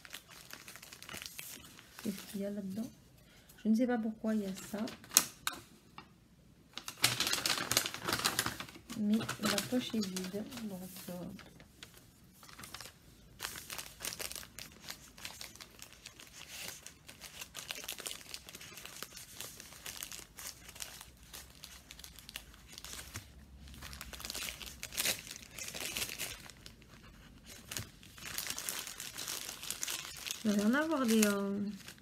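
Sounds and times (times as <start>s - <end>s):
plastic packaging crinkling: 0.0s - 2.9s, 6.7s - 32.0s.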